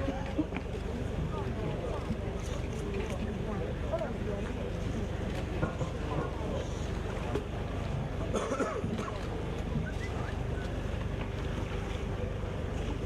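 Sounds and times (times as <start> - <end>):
faint voices: 0.0 - 13.0
waterfront ambience rumble: 0.0 - 13.0.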